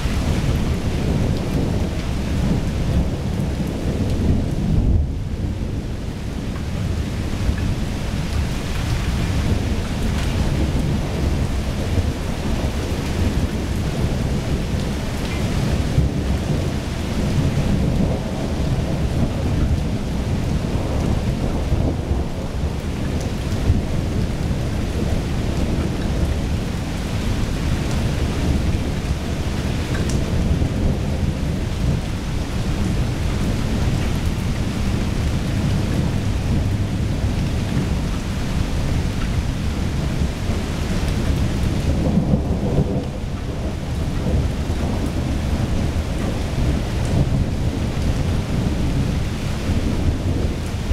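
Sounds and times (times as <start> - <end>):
steady rain: 0.0 - 50.9
thunder rumbling: 0.0 - 50.9.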